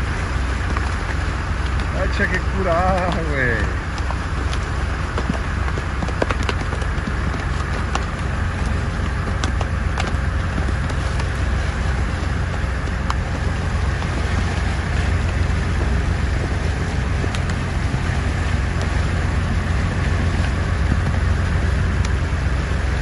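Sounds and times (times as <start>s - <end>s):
boat engine humming: 0.0s - 23.0s
water splashing: 0.0s - 23.0s.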